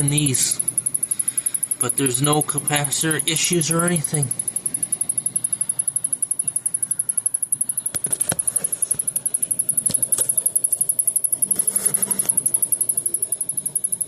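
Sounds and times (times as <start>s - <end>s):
television ticking rapidly: 0.0s - 14.0s.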